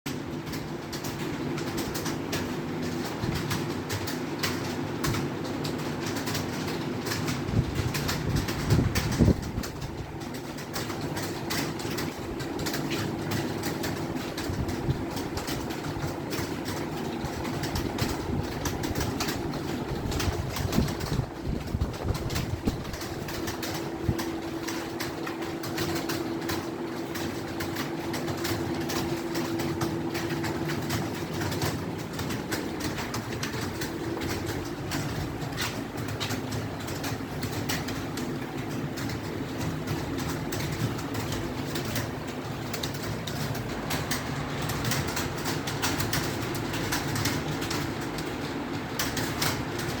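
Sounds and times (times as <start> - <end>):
fast typing on keyboard: 0.1 - 50.0.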